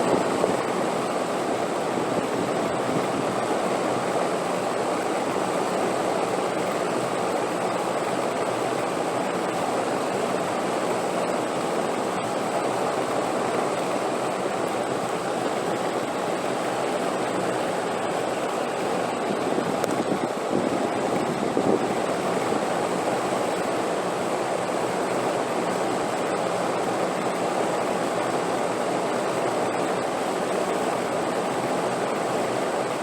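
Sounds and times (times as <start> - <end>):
wind blowing steadily: 0.0 - 33.0.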